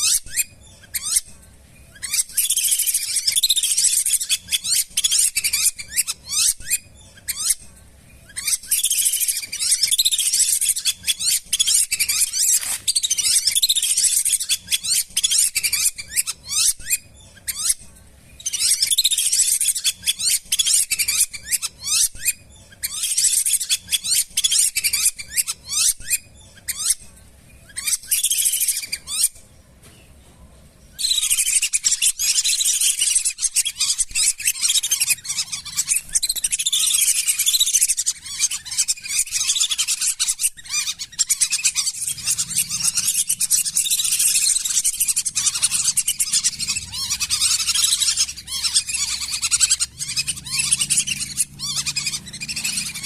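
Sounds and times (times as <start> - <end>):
ducks whistling calls: 1.9 - 7.6, 8.3 - 17.8, 18.4 - 27.0, 27.6 - 29.4, 31.0 - 53.0.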